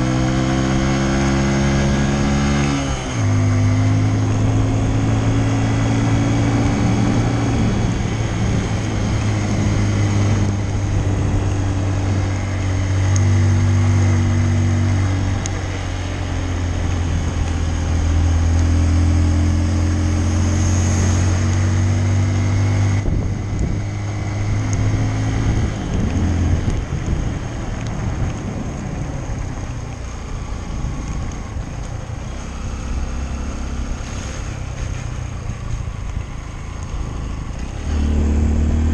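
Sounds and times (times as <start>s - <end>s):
wind noise on microphone: 0.0s - 18.5s, 19.2s - 36.3s
motorcycle engine running: 0.0s - 38.9s.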